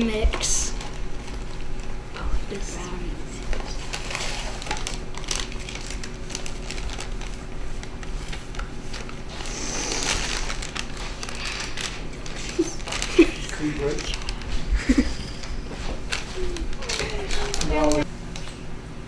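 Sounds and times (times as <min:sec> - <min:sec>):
packet crinkling: 0:00.4 - 0:18.1.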